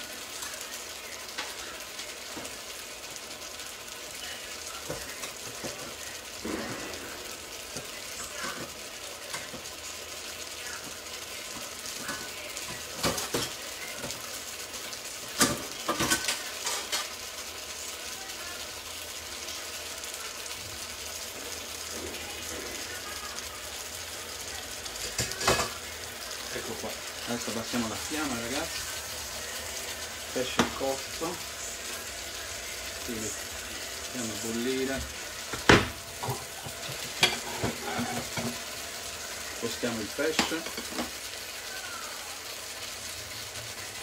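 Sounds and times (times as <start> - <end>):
sauce simmering in a pan: 0.0 - 44.0.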